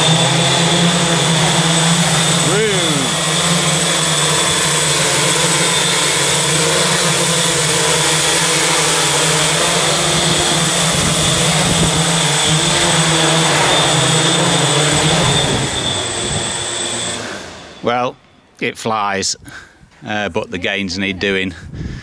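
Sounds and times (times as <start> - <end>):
drone motors and propellers whining: 0.0 - 18.6.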